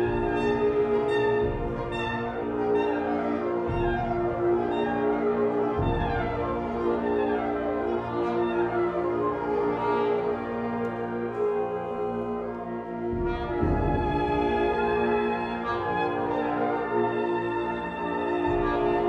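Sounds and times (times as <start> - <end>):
brass wind ensemble sustained chords: 0.0 - 19.0.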